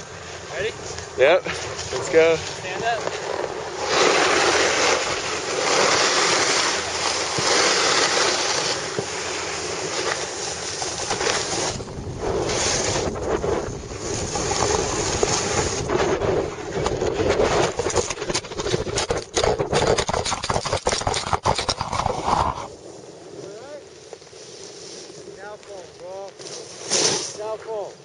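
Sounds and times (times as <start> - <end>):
wind on microphone: 0.0 - 23.7
snowboard edges scraping snow: 0.0 - 28.0.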